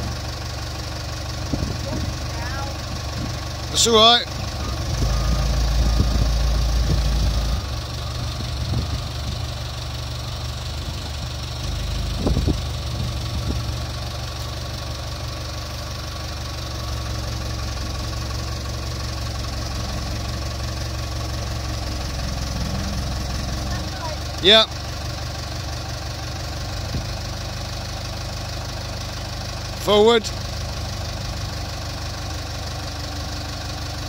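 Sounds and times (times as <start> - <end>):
diesel engine running at low revs: 0.0 - 34.0.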